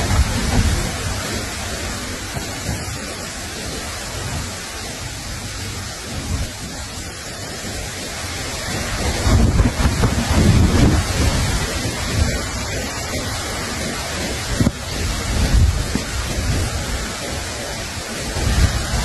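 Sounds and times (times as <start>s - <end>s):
low rumbles: 0.0s - 19.0s
steady hiss: 0.0s - 19.0s
wind buffeting microphone: 0.0s - 19.0s.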